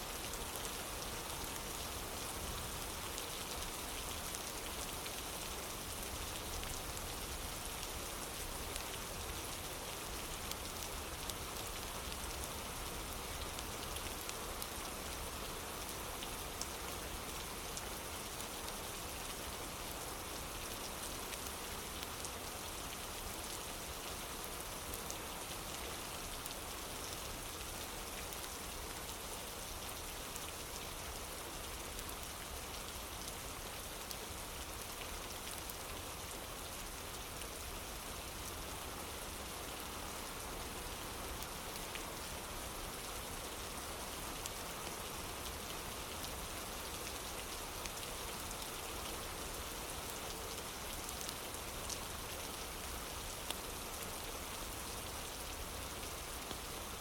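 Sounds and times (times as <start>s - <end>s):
rain on a wooden porch: 0.0s - 57.0s.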